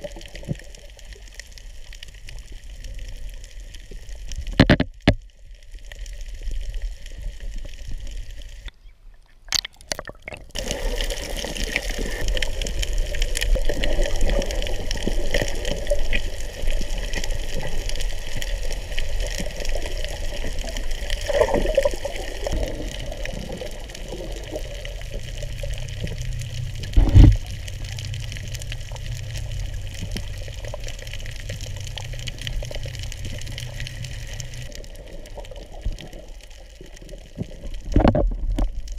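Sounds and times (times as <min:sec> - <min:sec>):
muffled underwater water rushing: 0:00.0 - 0:38.9.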